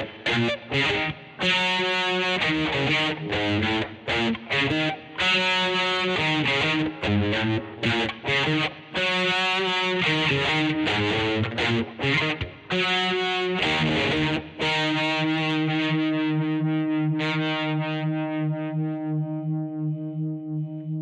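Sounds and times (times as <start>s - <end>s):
distorted electric guitar chords: 0.0s - 21.0s.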